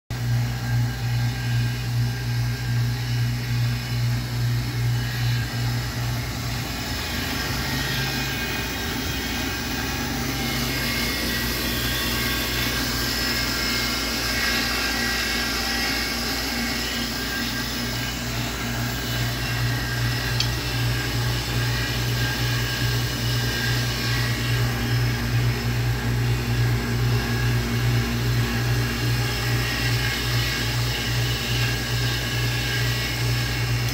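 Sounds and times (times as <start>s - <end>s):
lathe motor humming: 0.1s - 33.9s.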